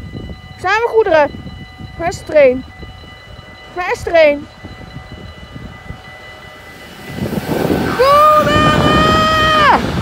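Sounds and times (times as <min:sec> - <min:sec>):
freight train rumbling: 0:00.0 - 0:10.0.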